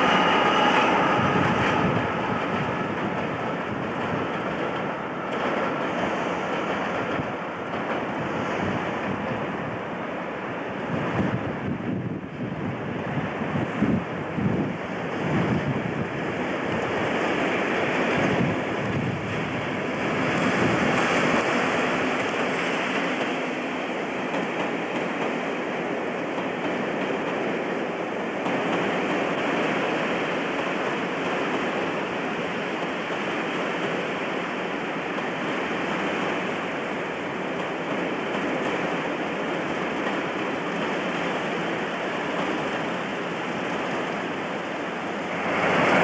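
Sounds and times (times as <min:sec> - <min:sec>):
diesel locomotive engine: 0:00.0 - 0:46.0
train wheels on rails: 0:00.0 - 0:46.0.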